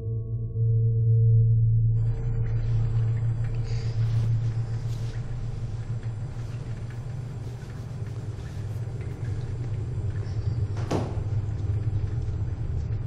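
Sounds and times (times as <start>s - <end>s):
deep steady rumble: 0.0s - 13.0s.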